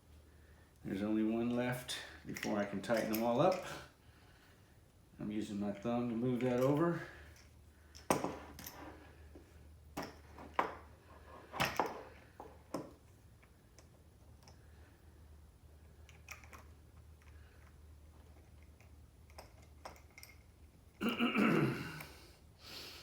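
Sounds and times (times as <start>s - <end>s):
low steady hum: 0.0s - 22.7s.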